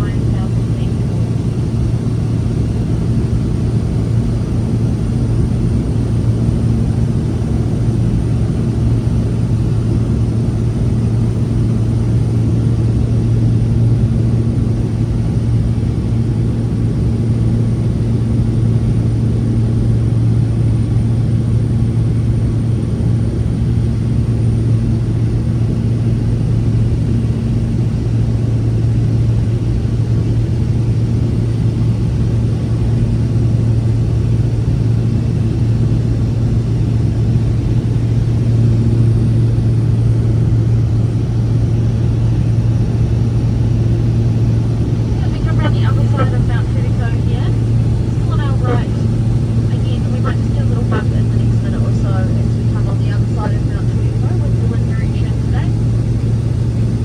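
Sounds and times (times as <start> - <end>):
plane engine and propeller drone: 0.0 - 57.0.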